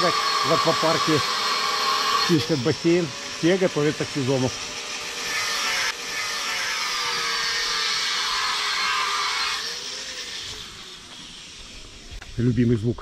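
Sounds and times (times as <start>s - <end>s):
angle grinder grinding: 0.0s - 12.3s
motor whine: 0.0s - 12.5s.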